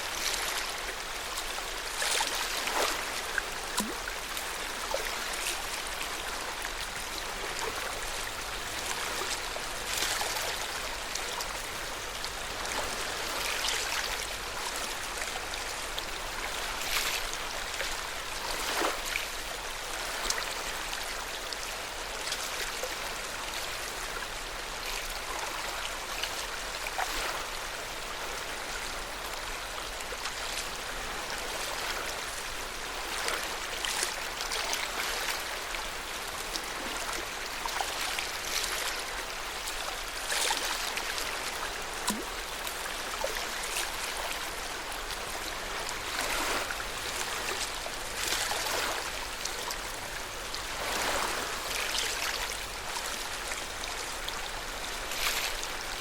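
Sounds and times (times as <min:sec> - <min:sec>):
water lapping and splashing: 0:00.0 - 0:56.0.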